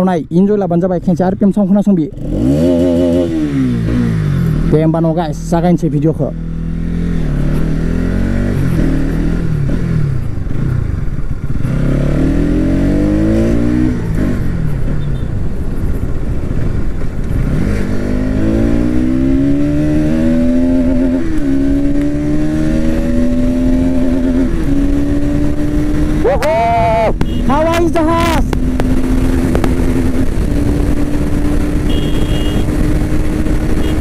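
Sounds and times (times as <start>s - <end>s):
motorcycle engine accelerating: 2.1s - 5.5s, 6.2s - 34.0s.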